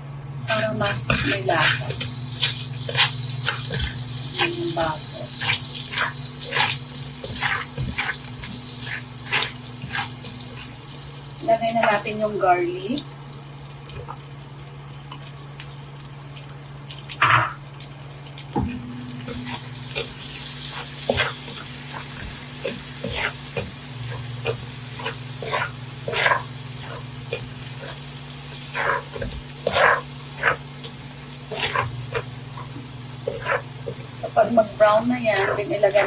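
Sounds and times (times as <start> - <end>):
steady low hum: 0.0 - 36.0
garlic sizzling in butter: 0.4 - 17.6, 18.5 - 36.0.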